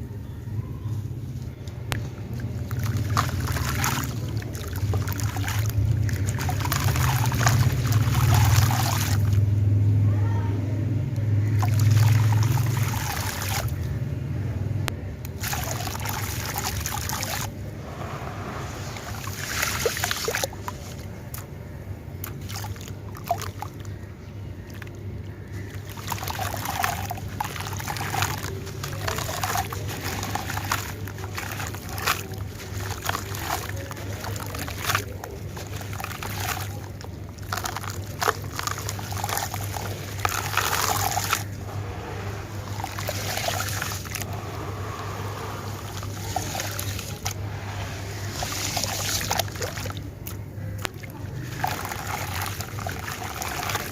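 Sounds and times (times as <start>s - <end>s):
water sloshing and trickling: 0.0s - 10.5s, 11.2s - 14.0s, 14.9s - 53.9s
steady low hum: 0.0s - 53.9s
chunks crunching in water: 1.4s - 9.4s, 11.2s - 14.0s, 15.1s - 53.9s.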